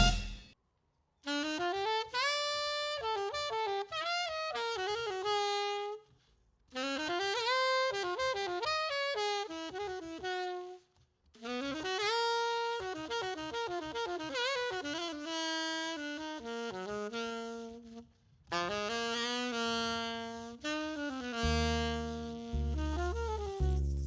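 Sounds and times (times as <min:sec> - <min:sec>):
jazz alto saxophone solo: 0:00.0 - 0:00.3, 0:01.3 - 0:06.1, 0:06.7 - 0:24.0.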